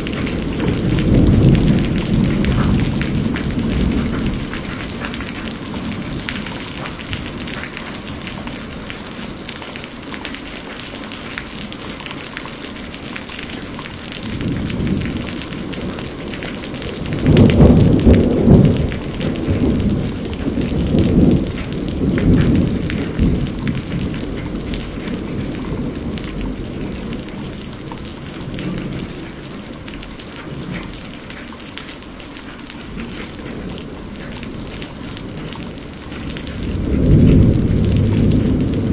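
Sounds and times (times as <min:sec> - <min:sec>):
thunder rumbling: 0:00.0 - 0:10.0, 0:10.6 - 0:31.5, 0:32.8 - 0:38.9
rain falling: 0:00.0 - 0:38.9.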